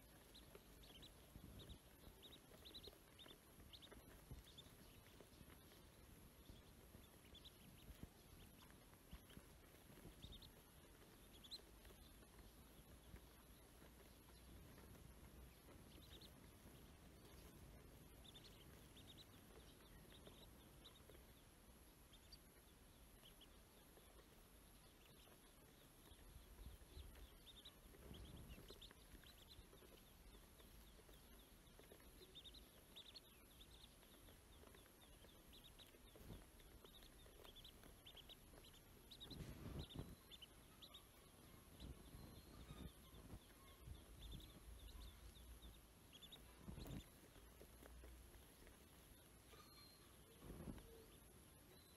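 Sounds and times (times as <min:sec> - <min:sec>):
ducklings peeping: 0:00.0 - 0:51.9.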